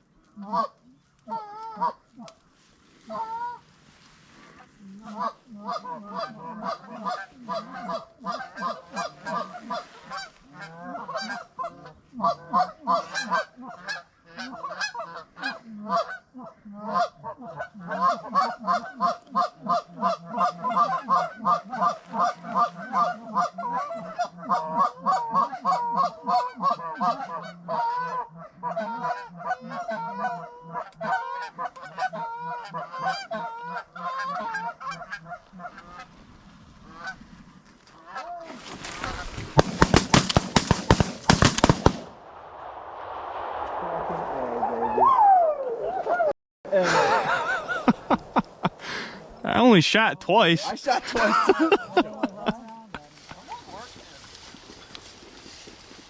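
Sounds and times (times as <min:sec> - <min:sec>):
geese honking and clucking: 0:00.0 - 0:42.1, 0:45.3 - 0:56.0.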